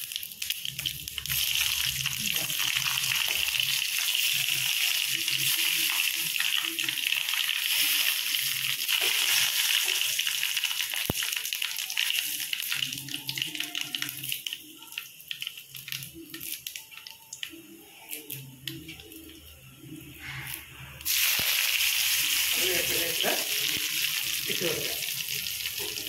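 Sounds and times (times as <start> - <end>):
spices sizzling in hot oil: 0.0 - 26.0.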